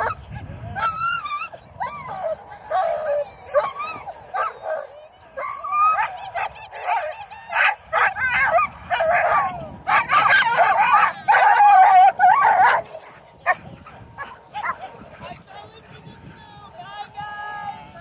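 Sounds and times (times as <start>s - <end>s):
sled dogs whining and yipping: 0.0s - 15.5s.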